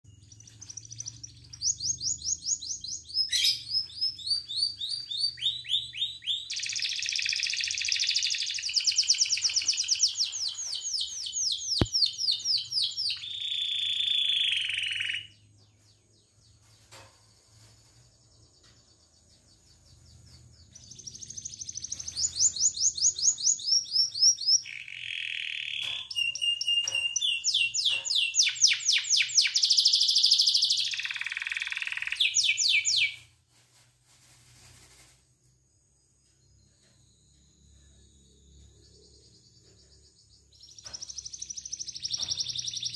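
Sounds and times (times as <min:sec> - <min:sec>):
canary singing rolling trills: 0:00.0 - 0:16.9, 0:18.7 - 0:33.2, 0:37.7 - 0:42.9.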